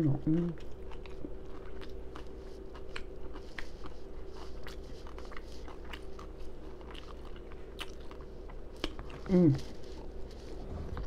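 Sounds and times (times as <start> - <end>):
wet open-mouth chewing: 0.1 - 11.0.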